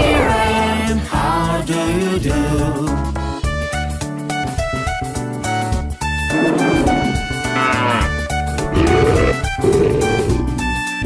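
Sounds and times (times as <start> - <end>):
upbeat instrumental children's music: 0.0 - 11.0.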